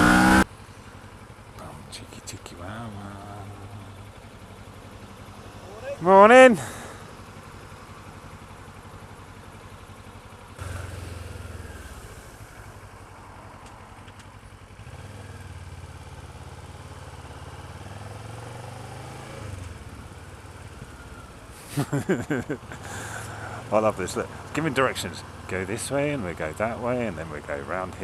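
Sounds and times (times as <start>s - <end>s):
motorcycle engine revving: 0.0s - 1.5s, 2.8s - 28.0s.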